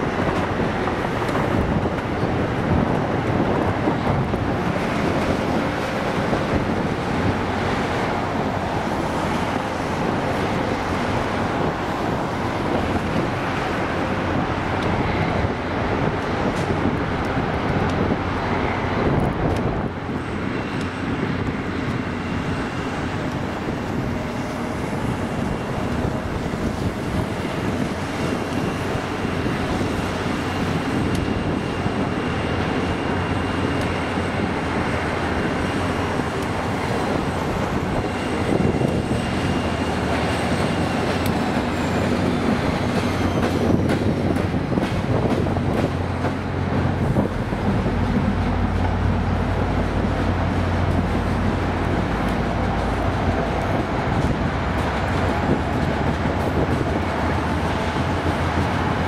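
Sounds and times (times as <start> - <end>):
diesel locomotive approaching: 0.0 - 59.0
trains rumbling: 0.0 - 59.0
wind buffeting microphone: 0.0 - 59.0.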